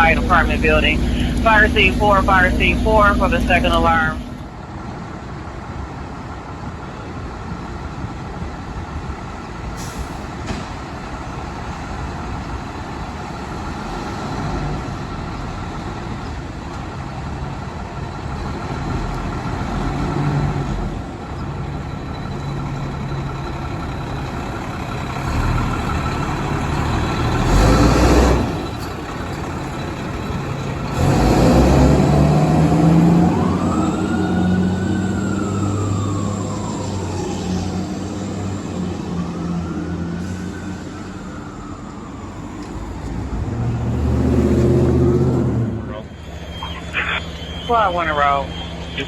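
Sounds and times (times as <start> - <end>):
fire truck diesel engine: 0.0 - 49.0.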